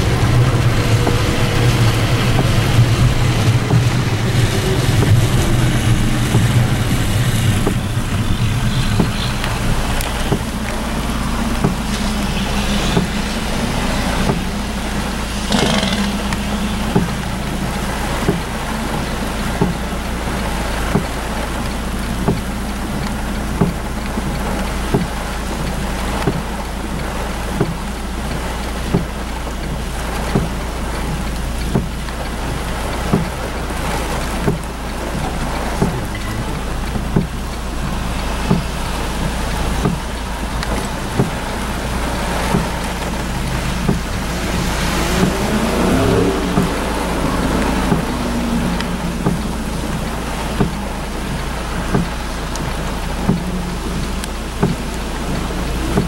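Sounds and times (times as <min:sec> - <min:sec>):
rain hissing: 0:00.0 - 0:56.0
vehicles driving through water: 0:00.0 - 0:56.0.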